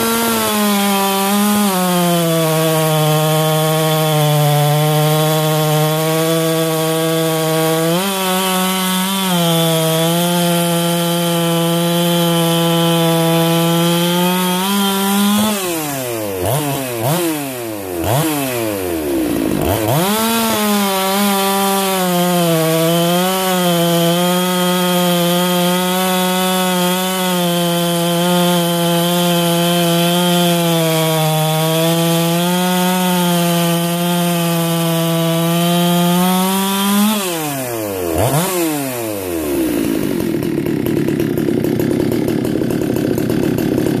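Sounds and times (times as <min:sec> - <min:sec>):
chainsaw cutting through log: 0:00.0 - 0:44.0.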